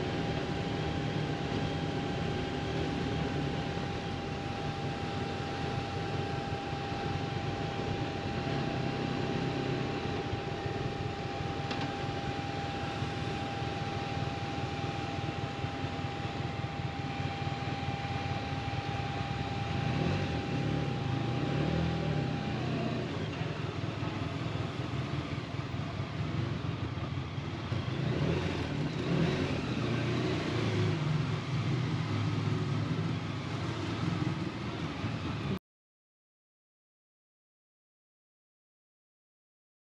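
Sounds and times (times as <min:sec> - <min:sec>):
motorcycle engine running: 0:00.0 - 0:35.6
road noise: 0:00.0 - 0:35.6
thin steady whine: 0:00.0 - 0:35.6.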